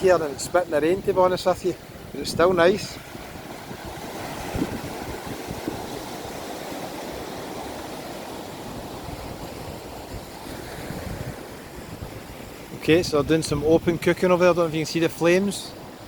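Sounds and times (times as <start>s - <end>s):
wind buffeting microphone: 0.0s - 14.6s
surf washing on beach: 0.0s - 16.0s.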